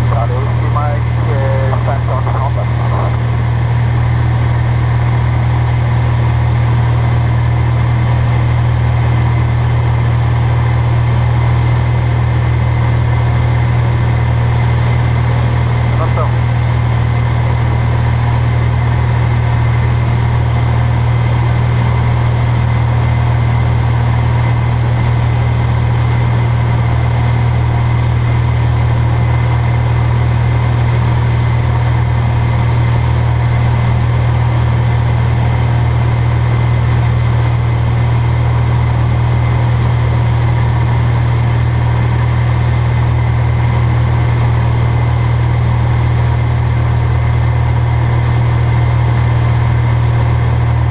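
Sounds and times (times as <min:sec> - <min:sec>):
light plane engine drone: 0:00.0 - 0:50.9.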